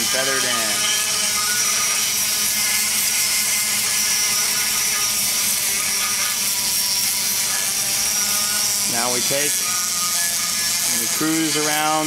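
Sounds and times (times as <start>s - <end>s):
die grinder grinding metal: 0.0s - 12.0s.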